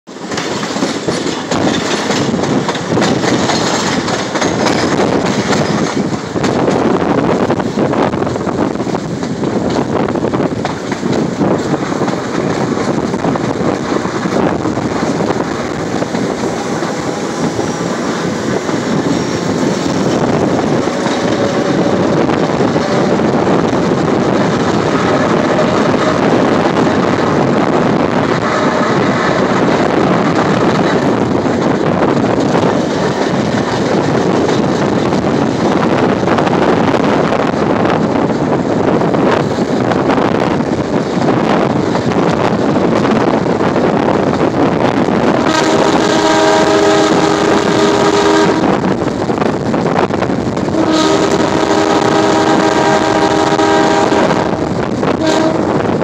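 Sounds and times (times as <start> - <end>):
steel wheels rumbling on rails: 0.0 - 56.0
wheels clicking over rail joints: 0.1 - 50.8.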